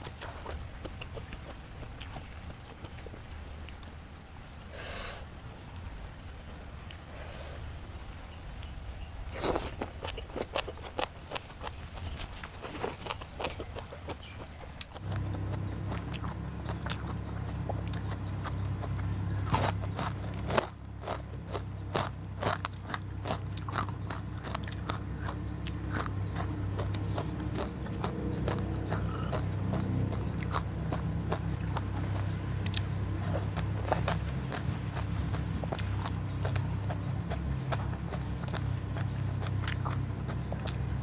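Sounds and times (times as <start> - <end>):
crunchy food being chewed: 0.0 - 4.0, 9.3 - 41.0
low steady hum: 0.0 - 41.0.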